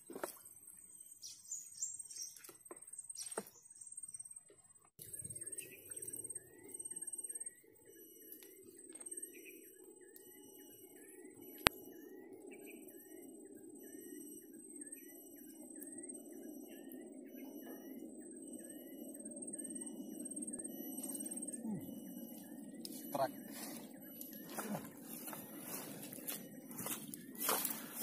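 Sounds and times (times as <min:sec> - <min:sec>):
bird chirping: 0:00.1 - 0:28.0.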